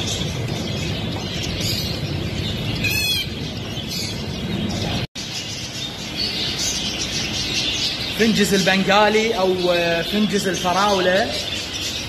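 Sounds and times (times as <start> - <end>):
finches chirping and twittering: 0.0 - 12.0.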